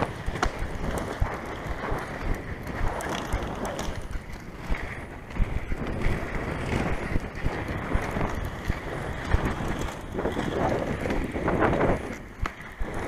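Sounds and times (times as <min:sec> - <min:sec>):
inline skate wheels rolling on pavement: 0:00.0 - 0:13.0
wind buffeting microphone: 0:00.0 - 0:13.0.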